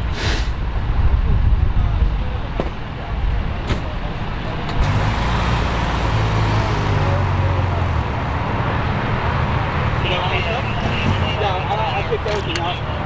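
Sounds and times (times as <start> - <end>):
road traffic noise: 0.0 - 13.0
vehicle engine humming nearby: 0.0 - 13.0.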